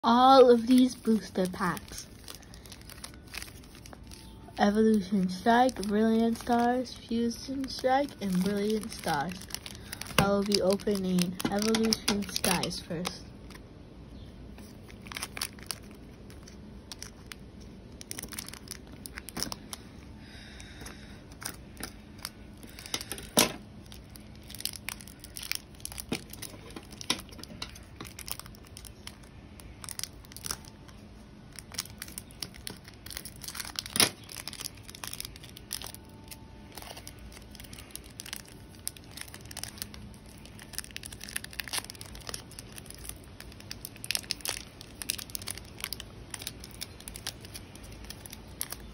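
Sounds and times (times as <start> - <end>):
scissors cutting foil wrapper: 0.0 - 13.6, 21.3 - 30.7, 31.5 - 48.9
foil wrapper crinkling: 0.0 - 48.9.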